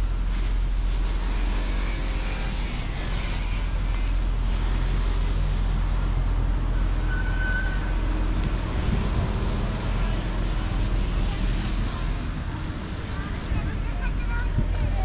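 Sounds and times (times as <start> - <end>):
cars and trucks passing: 0.0 - 15.0.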